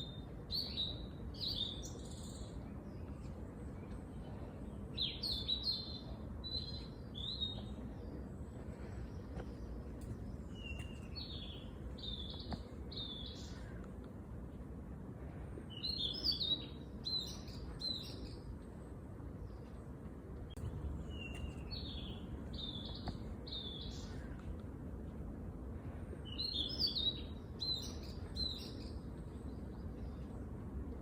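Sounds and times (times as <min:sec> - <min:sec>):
low background rumble: 0:00.0 - 0:31.0
songbird singing: 0:00.0 - 0:31.0.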